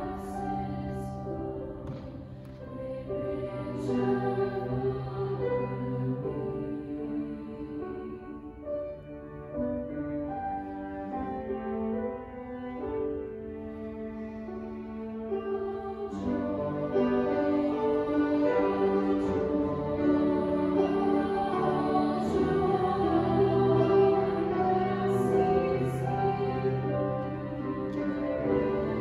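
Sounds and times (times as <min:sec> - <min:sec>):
cello accompaniment: 0:00.0 - 0:29.0
girls' choir singing: 0:00.0 - 0:29.0.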